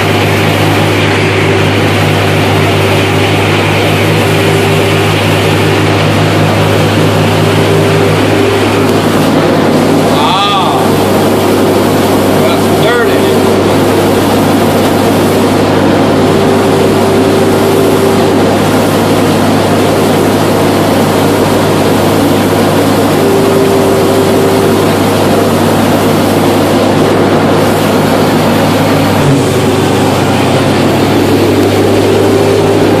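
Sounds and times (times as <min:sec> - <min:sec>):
combine harvester droning: 0:00.0 - 0:33.0
high mechanical whine: 0:00.0 - 0:33.0.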